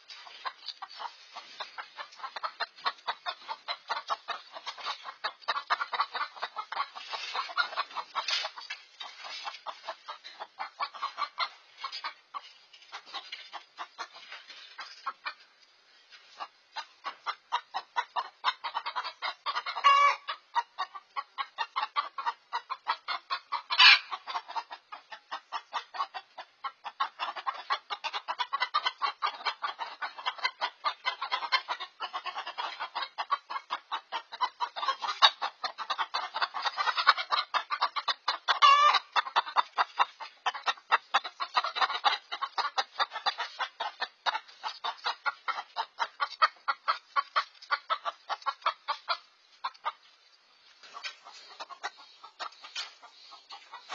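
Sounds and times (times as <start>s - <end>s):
hens alarm clucking: 0.0s - 53.9s
chicken squawks: 0.2s - 12.2s, 16.4s - 50.0s, 50.8s - 53.9s.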